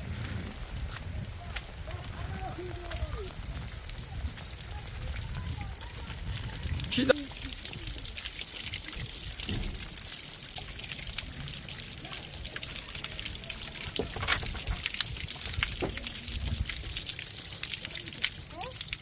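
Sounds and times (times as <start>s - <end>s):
rain hissing: 0.0s - 19.0s
raindrops dripping and tapping: 0.0s - 19.0s.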